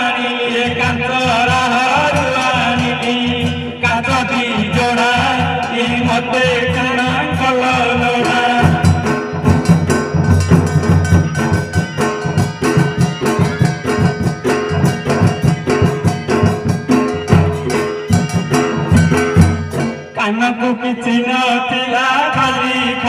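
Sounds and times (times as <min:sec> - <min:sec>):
fast loud barrel drumming: 0:00.5 - 0:20.4.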